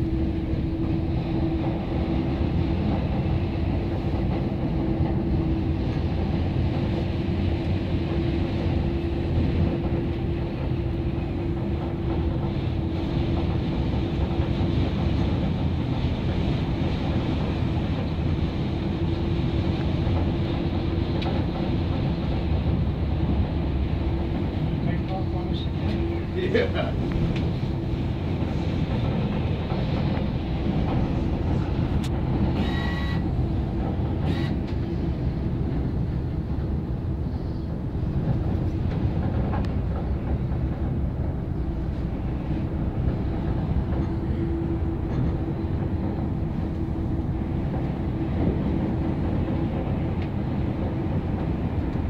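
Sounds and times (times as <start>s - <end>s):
cable car rumbling: 0.0s - 52.0s.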